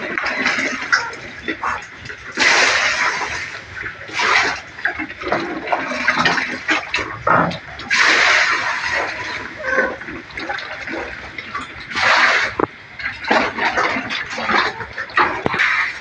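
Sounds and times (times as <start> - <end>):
wet feed splashing into trough: 0.0 - 11.2, 11.8 - 16.0
pigs slurping and chomping: 0.0 - 16.0.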